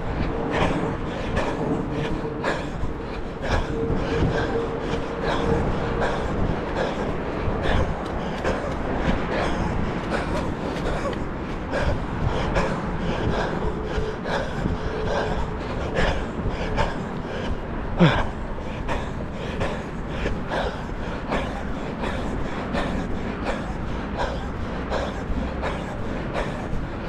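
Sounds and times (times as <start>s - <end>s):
heavy breathing: 0.0s - 27.0s
wind rumbling on microphone: 0.0s - 27.0s.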